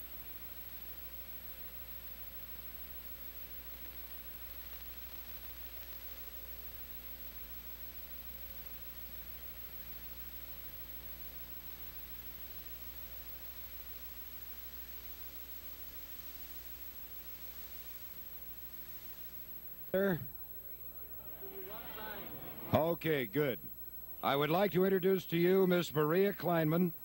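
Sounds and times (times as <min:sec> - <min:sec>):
faint high-pitched whine: 0:00.0 - 0:27.0
low mains hum: 0:00.0 - 0:27.0
steady tape hiss: 0:00.0 - 0:27.0.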